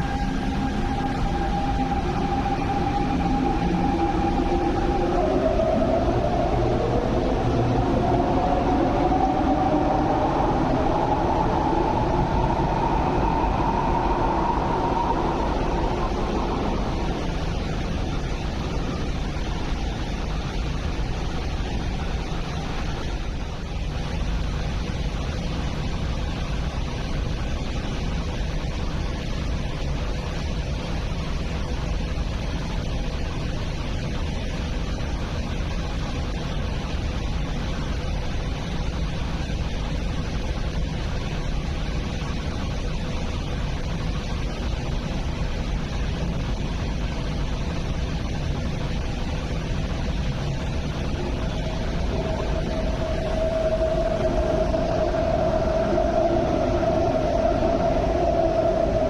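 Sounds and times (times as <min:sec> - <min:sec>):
rumble of train on track: 0:00.0 - 0:59.0.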